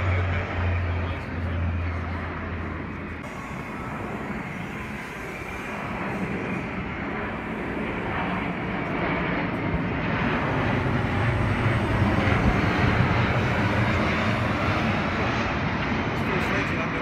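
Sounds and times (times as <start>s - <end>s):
jet engines rumbling overhead: 0.0s - 17.0s.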